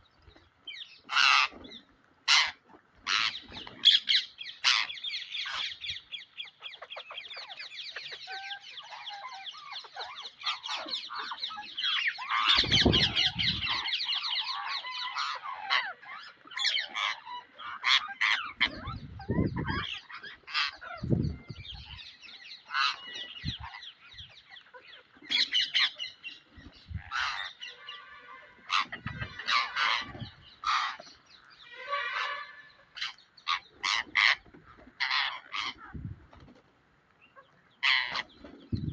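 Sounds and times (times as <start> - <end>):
parakeets chattering and squawking: 0.1 - 38.9.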